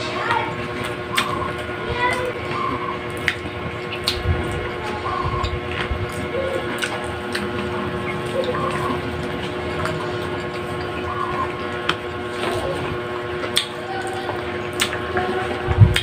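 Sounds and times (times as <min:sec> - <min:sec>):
people chewing food: 0:00.0 - 0:16.0
steady mechanical hum: 0:00.0 - 0:16.0.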